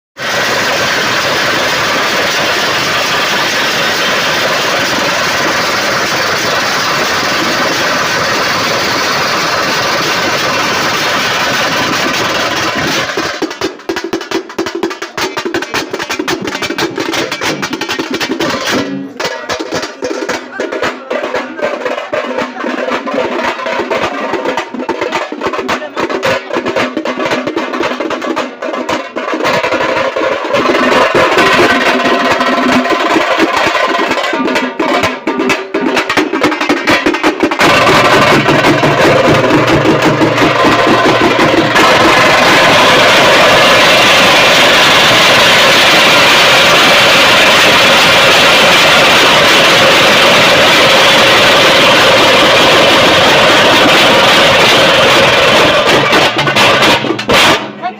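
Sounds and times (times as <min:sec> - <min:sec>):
frame drums beaten with sticks: 0:00.2 - 0:57.9.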